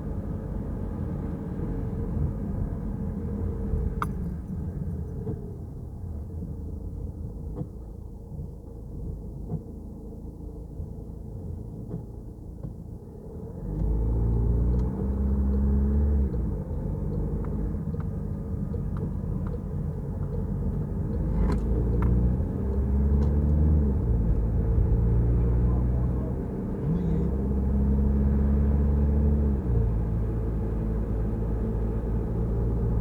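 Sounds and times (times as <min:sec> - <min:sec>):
car driving on wet road: 0:00.2 - 0:33.0.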